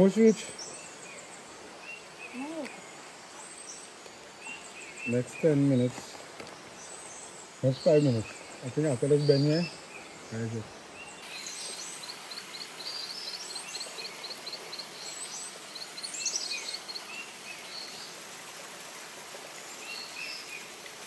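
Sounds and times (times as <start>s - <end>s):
birds chirping: 0.0s - 18.4s, 19.6s - 21.0s
steady background hiss: 0.0s - 21.0s.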